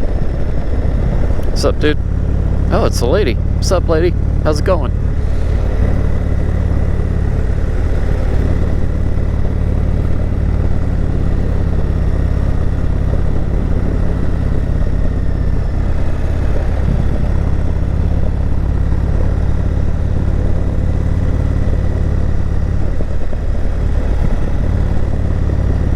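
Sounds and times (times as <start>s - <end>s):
motorcycle engine droning: 0.0s - 25.9s.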